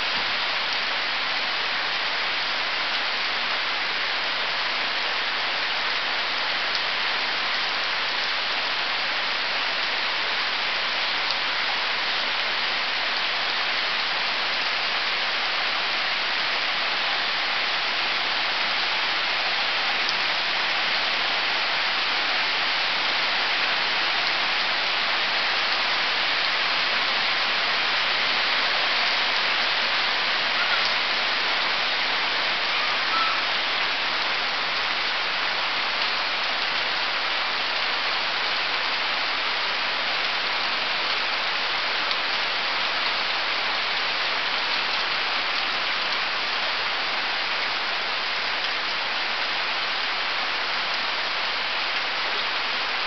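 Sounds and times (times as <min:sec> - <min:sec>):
rain on wet ground: 0:00.0 - 0:53.0.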